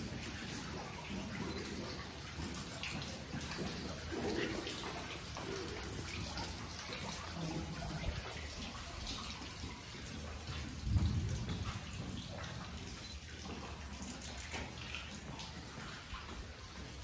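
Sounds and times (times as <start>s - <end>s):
faint water drips: 0.0s - 17.0s
water rushing in a cave: 0.0s - 17.0s.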